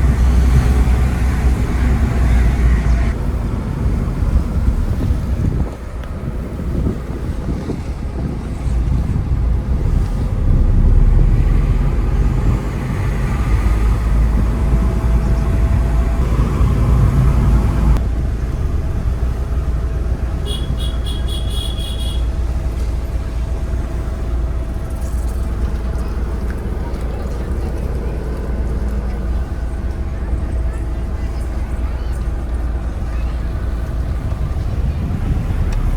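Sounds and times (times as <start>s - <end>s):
wind buffeting microphone: 0.0s - 20.9s, 22.1s - 35.9s
car engine and road rumble: 0.0s - 35.9s.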